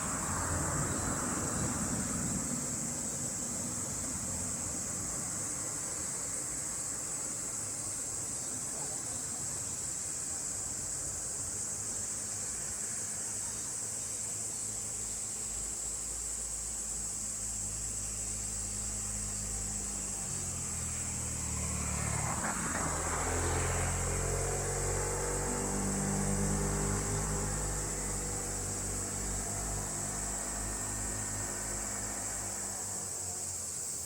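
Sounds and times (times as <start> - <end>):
passing vehicle engine hum: 0.0 - 9.4, 15.4 - 33.6
cicadas droning: 0.0 - 34.0.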